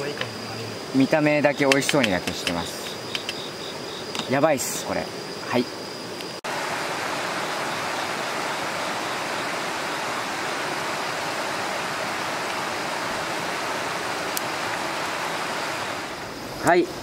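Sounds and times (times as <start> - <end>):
campfire hissing: 0.0 - 17.0.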